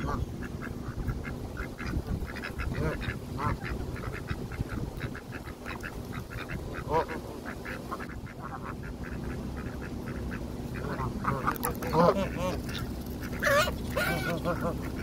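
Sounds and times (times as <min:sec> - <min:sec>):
geese and ducks calling: 0:00.0 - 0:15.0.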